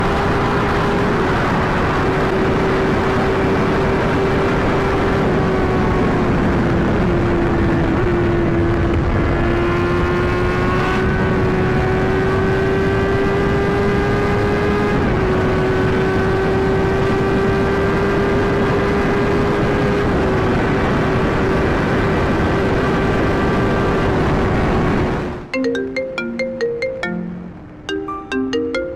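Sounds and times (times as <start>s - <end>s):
motorcycle engine at high speed: 0.0s - 25.5s.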